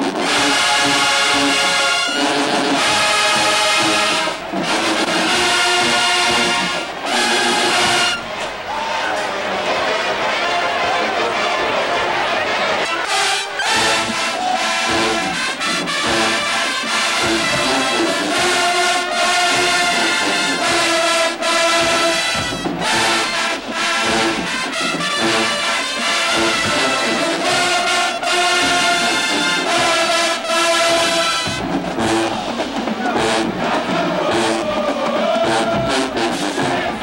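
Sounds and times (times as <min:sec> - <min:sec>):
marching band playing: 0:00.0 - 0:37.0.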